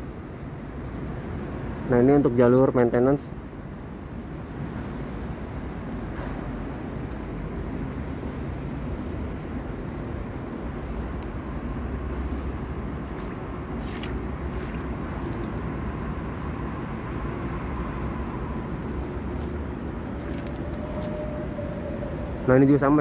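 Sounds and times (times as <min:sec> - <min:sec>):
low rumbling noise: 0:03.3 - 0:23.0.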